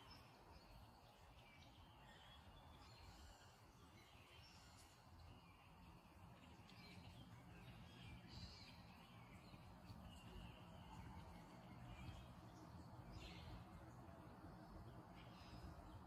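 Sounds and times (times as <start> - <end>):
low steady background hum: 0.0 - 16.0.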